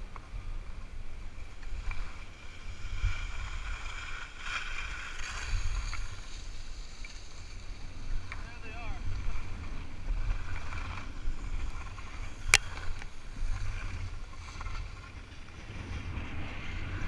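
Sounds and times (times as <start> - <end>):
skis sliding over snow: 0.0 - 17.0
wind buffeting microphone: 0.0 - 17.0.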